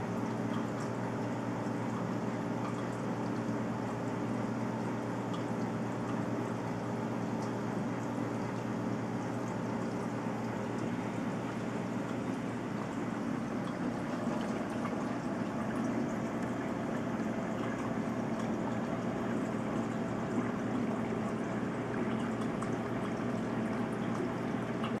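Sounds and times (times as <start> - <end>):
pump hum: 0.0 - 25.0
running and bubbling water: 0.0 - 25.0.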